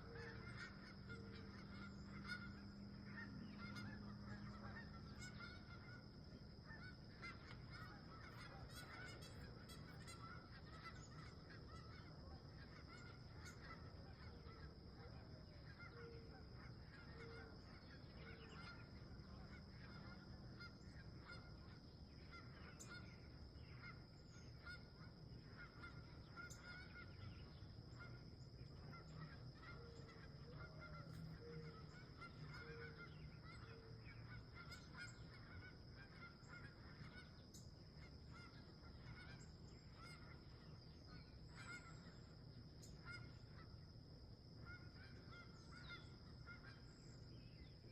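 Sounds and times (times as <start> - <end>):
distant geese honking: 0.0 - 47.9.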